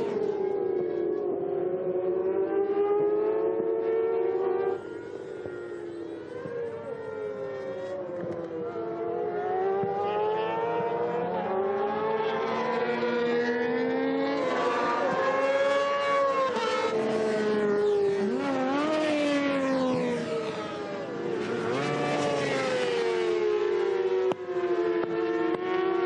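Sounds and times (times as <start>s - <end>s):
racing motorcycles at full throttle: 0.0s - 26.0s.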